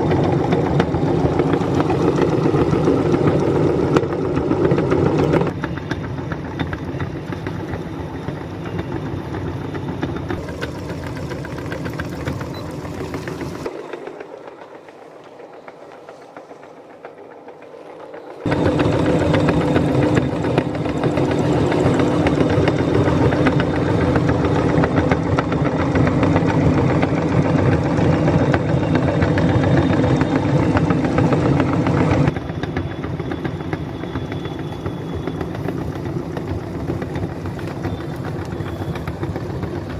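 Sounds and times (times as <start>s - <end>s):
meat grinder motor humming: 0.0s - 39.9s.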